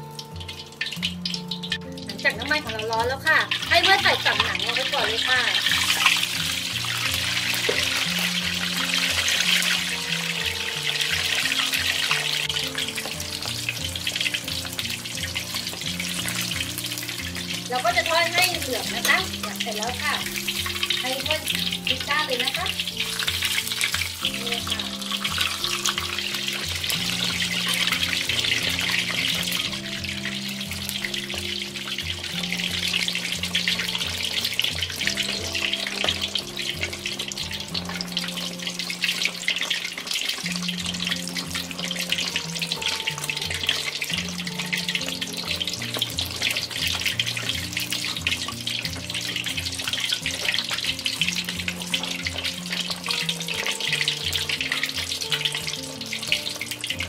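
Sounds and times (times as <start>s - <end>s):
background music low notes: 0.0s - 57.0s
pork deep-frying in oil: 0.0s - 57.0s.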